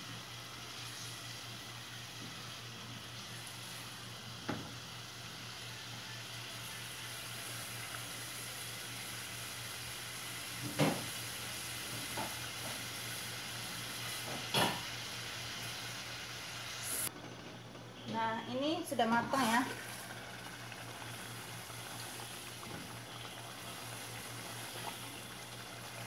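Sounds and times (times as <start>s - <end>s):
food sizzling in a pot: 0.0s - 17.1s, 18.6s - 26.0s.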